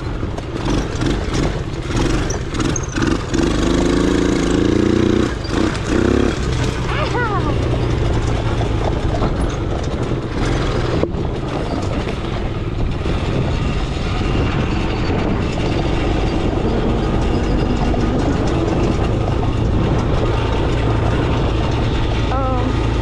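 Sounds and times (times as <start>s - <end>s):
atv engine running: 0.0s - 23.0s
knocks and rattles: 0.0s - 23.0s.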